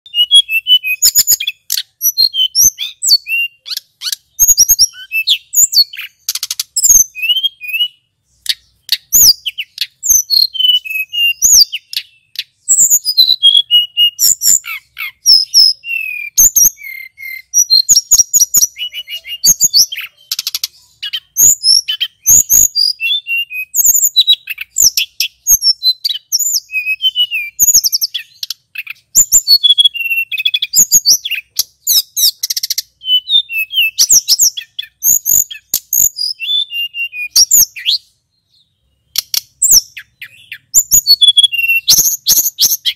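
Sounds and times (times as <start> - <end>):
bird singing whistles and trills: 0.0 - 42.9.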